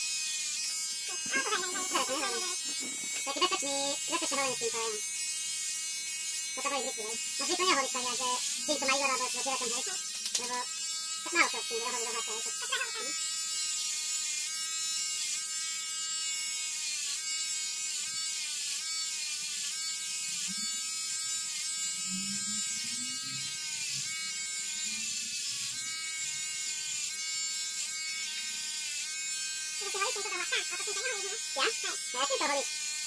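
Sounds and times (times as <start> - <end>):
electric shaver whirring: 0.0 - 33.0.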